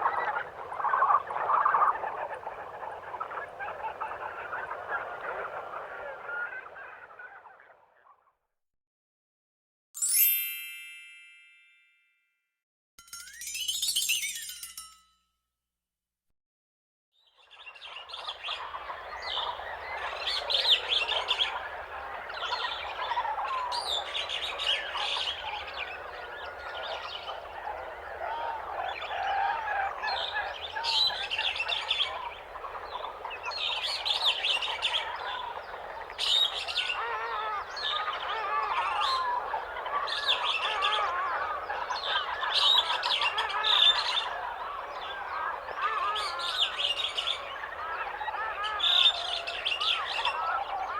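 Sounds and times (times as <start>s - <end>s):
chorus of birds chirping: 0.0s - 7.8s, 17.4s - 50.9s.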